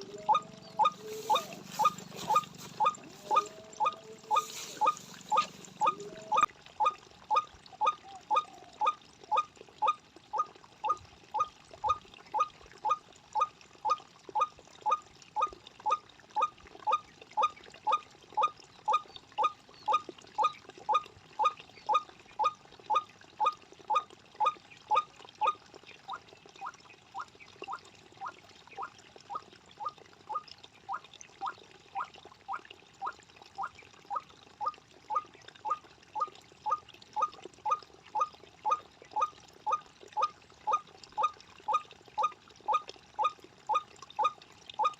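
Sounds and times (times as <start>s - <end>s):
waterhen call rising note: 0.0s - 25.6s, 33.6s - 44.9s.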